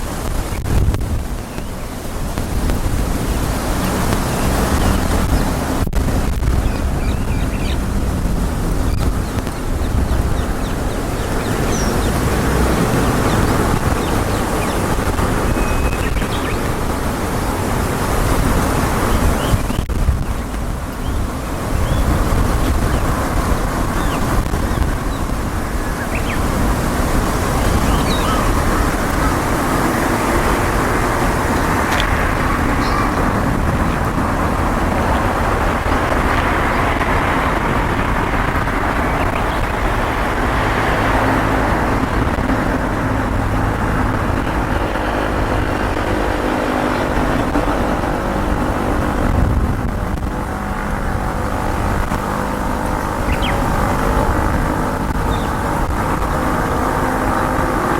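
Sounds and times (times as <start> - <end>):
road traffic from passing cars: 0.0 - 57.9.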